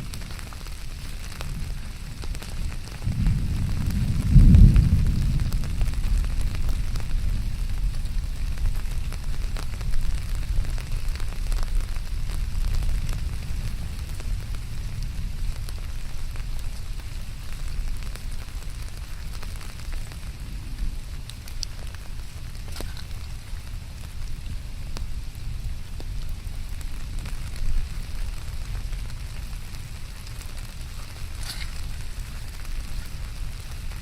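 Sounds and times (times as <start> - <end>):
low rumble: 0.0 - 34.0
rain drops pattering: 0.0 - 34.0.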